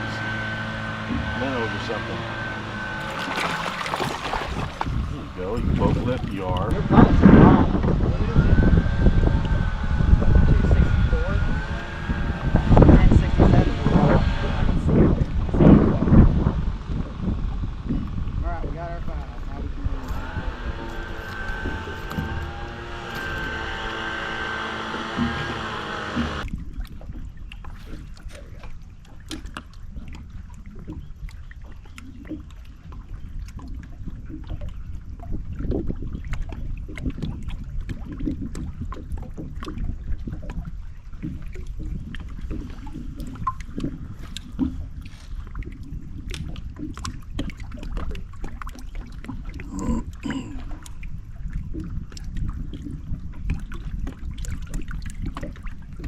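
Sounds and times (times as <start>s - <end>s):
boat low rumble: 0.0s - 56.0s.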